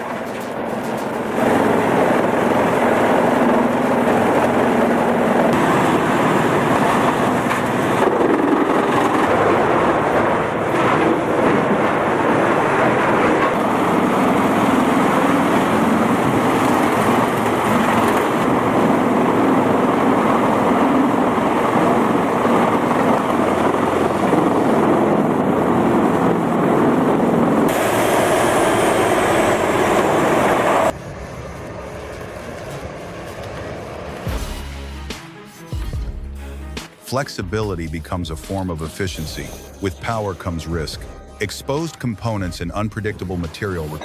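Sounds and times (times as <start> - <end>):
heavy forestry machinery: 0.0 - 35.9, 36.7 - 44.0.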